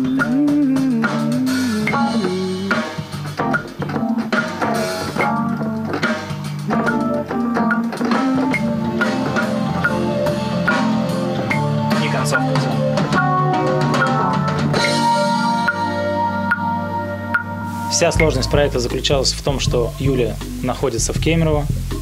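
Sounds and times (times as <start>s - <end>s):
bass line: 0.0s - 22.0s
drum kit beat: 0.0s - 22.0s
keyboard chords: 0.0s - 22.0s.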